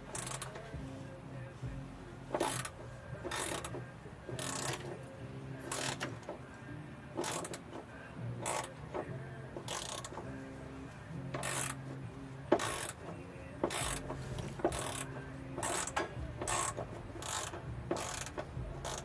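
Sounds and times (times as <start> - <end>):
ratchet wrench clicking: 0.1 - 0.7, 2.3 - 6.4, 7.2 - 10.3, 11.3 - 19.0.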